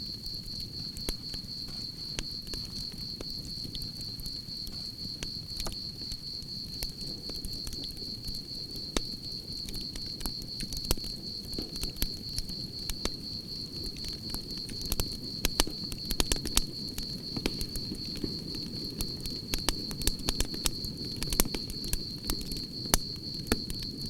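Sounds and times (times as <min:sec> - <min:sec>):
crickets chirping: 0:00.0 - 0:24.0
low rumble of flames: 0:00.0 - 0:24.0
campfire crackling and popping: 0:00.2 - 0:24.0.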